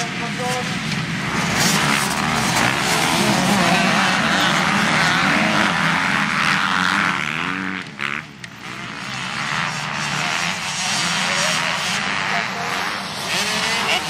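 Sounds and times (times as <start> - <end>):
dirt bikes revving: 0.0 - 14.0.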